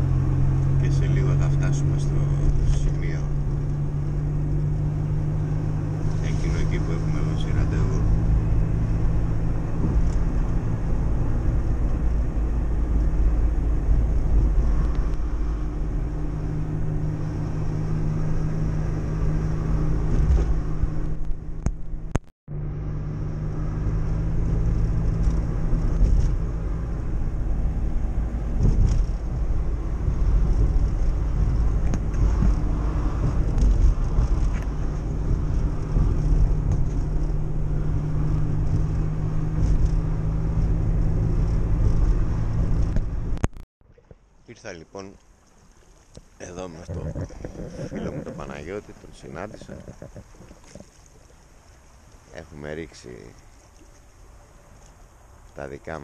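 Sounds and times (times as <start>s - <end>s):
car engine and tyre hum: 0.0s - 56.0s.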